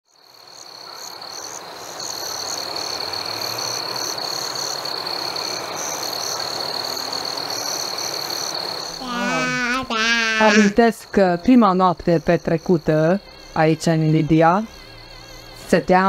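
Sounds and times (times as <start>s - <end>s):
frogs calling: 0.5s - 13.6s.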